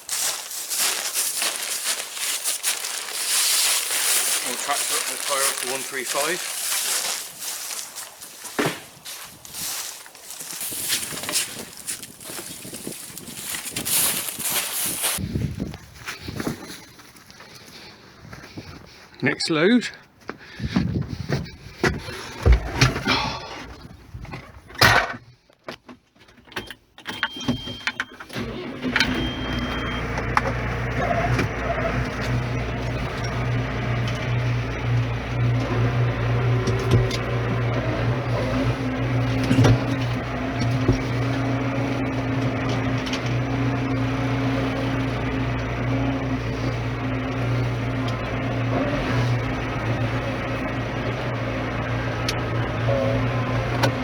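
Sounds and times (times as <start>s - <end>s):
tractor engine running: 0.0s - 25.4s, 27.3s - 54.0s.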